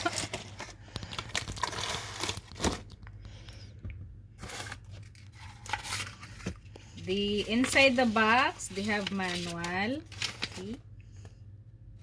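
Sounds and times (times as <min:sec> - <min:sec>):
packaging rustling and tearing: 0:00.0 - 0:03.2, 0:04.4 - 0:10.8.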